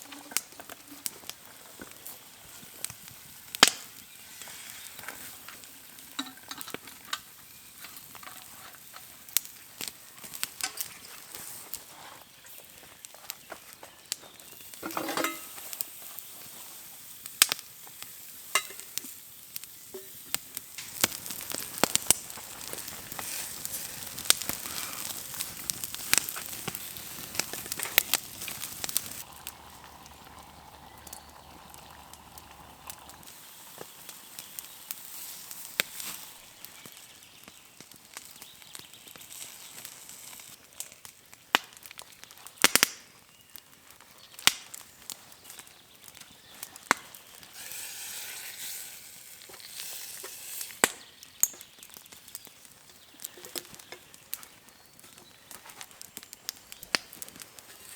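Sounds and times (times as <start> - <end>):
food sizzling in a pan: 0.0 - 41.1, 45.5 - 51.8, 57.6 - 57.9
wood fire crackling and popping: 0.0 - 57.9.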